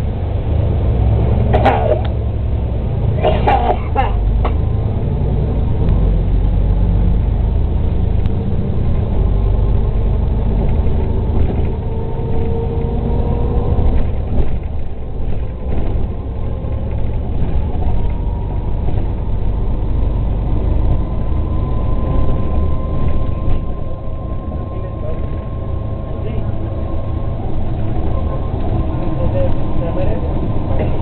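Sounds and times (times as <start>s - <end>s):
bus engine low rumble: 0.0s - 31.0s
rising drivetrain whine: 4.2s - 31.0s.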